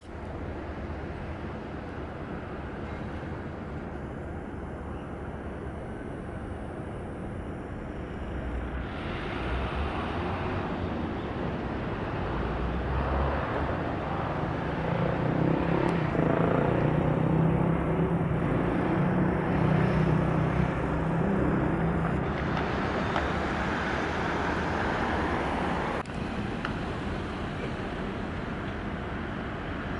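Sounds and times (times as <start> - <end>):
vehicle engine and tyre noise: 0.0 - 29.9.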